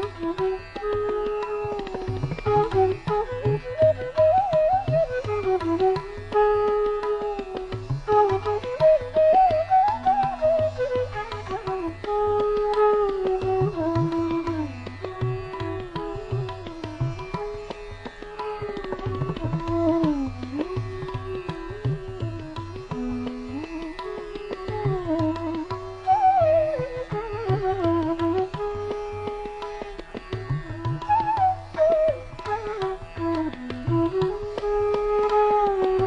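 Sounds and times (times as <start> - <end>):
tabla rhythm: 0.0 - 36.0.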